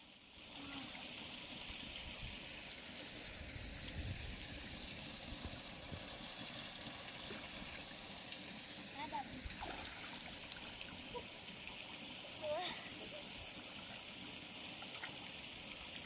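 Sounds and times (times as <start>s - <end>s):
spring water running: 0.0s - 16.0s.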